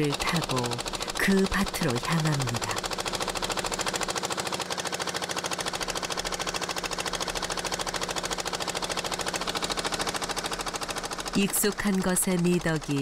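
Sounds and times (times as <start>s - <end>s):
boat diesel engine chugging: 0.0s - 13.0s.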